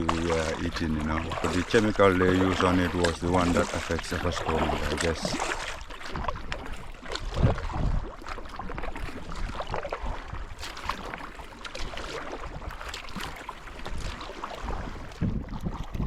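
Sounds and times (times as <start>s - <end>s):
paddle splashes: 0.0s - 16.0s
water lapping around canoe: 0.0s - 16.0s.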